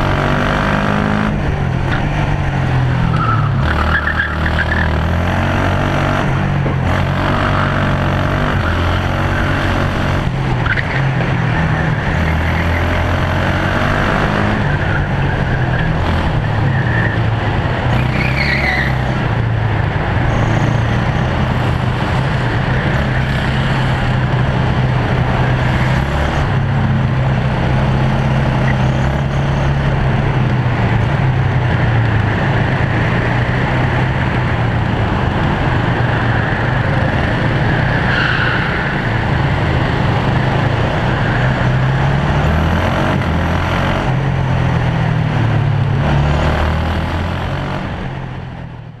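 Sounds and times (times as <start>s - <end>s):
kart engine revving: 0.0s - 48.4s.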